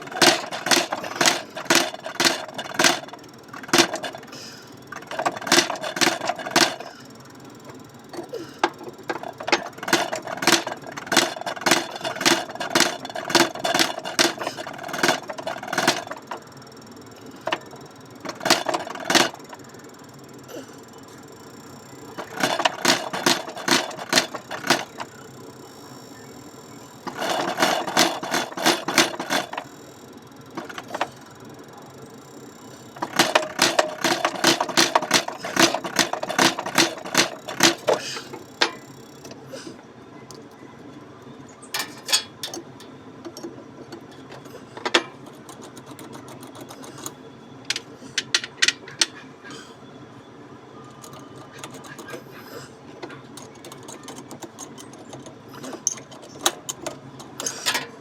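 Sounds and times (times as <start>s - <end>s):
rapid mechanical clicking: 0.0s - 39.5s, 40.2s - 49.2s, 50.8s - 58.0s.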